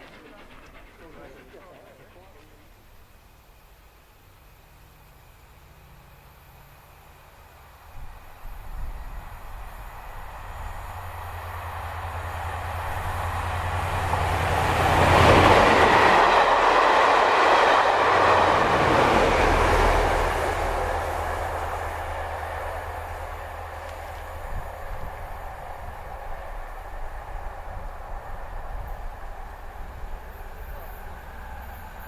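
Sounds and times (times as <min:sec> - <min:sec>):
train passing by: 0:00.0 - 0:32.0.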